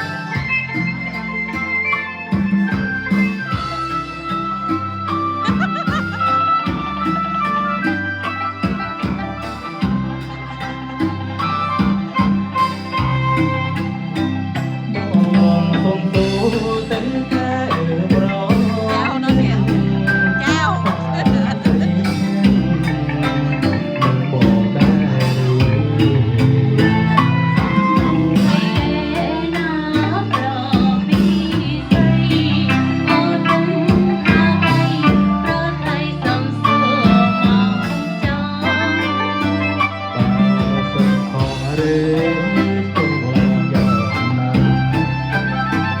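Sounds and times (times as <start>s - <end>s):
band playing pop song: 0.0s - 46.0s
person singing: 0.0s - 46.0s.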